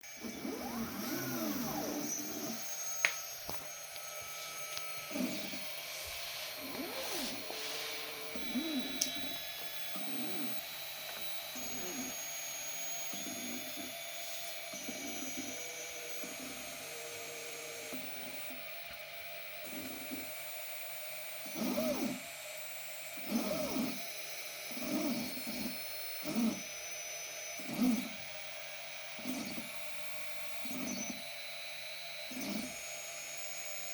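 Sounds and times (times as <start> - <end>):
robotic arm motors whining: 0.0 - 33.9.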